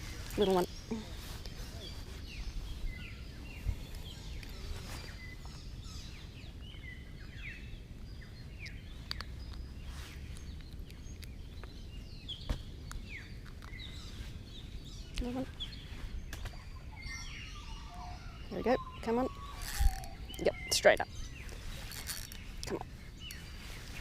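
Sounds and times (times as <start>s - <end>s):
birds calling with falling chirps: 0.0s - 24.0s.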